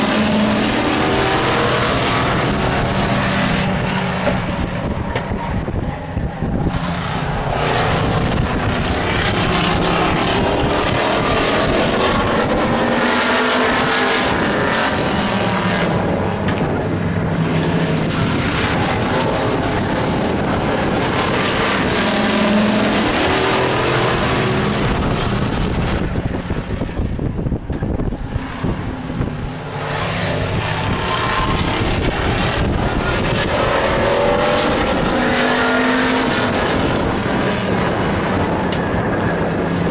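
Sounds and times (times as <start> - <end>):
race truck engines: 0.0 - 39.9
wind on microphone: 0.0 - 39.9.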